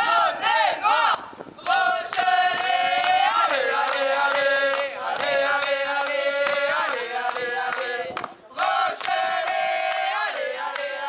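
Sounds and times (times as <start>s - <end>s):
crowd singing a chant: 0.0s - 11.0s
people clapping in time: 1.6s - 11.0s.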